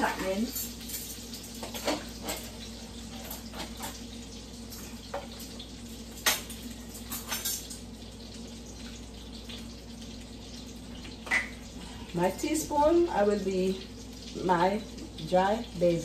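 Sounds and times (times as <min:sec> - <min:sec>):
sausages sizzling in a skillet: 0:00.0 - 0:16.0.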